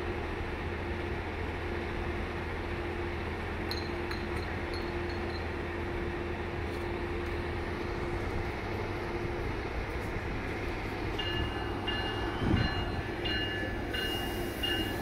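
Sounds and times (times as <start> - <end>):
train idling hum: 0.0 - 15.0.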